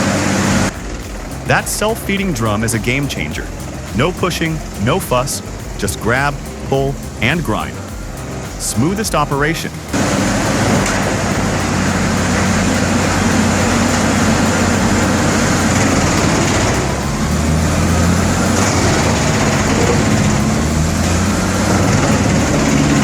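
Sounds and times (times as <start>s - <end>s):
industrial shredding machine engine drone: 0.0s - 23.0s.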